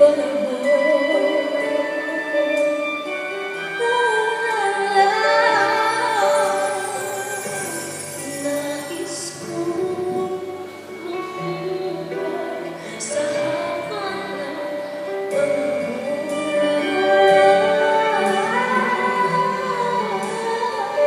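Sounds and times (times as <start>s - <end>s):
two women singing pop duet: 3.7s - 21.0s.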